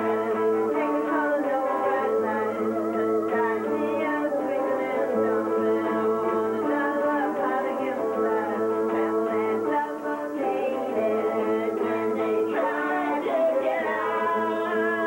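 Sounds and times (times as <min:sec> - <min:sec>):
electronic keyboard chords: 0:00.0 - 0:15.0
guitar playing: 0:00.0 - 0:15.0.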